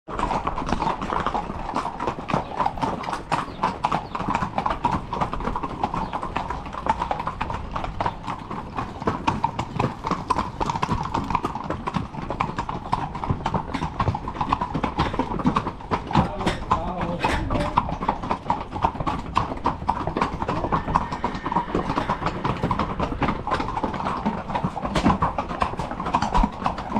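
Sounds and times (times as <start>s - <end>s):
horse hooves clip-clopping: 0.1s - 26.9s.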